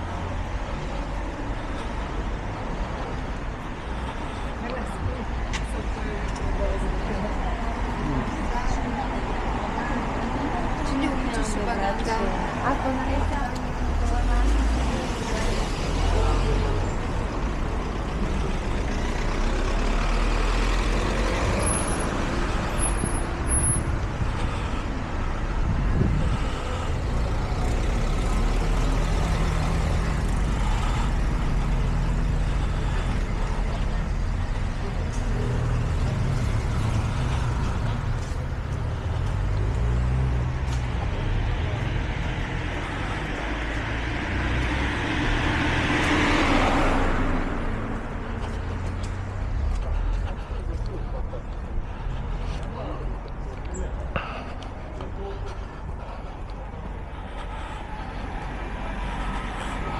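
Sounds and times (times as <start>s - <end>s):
traffic engine rumble: 0.0s - 59.9s
vehicle passing: 0.0s - 59.9s.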